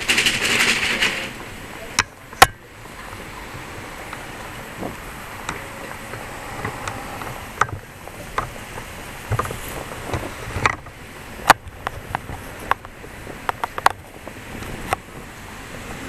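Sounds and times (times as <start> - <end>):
sharp clicks and knocks: 0.0 - 3.1, 4.1 - 15.0
outdoor rumble and hiss: 0.0 - 16.0.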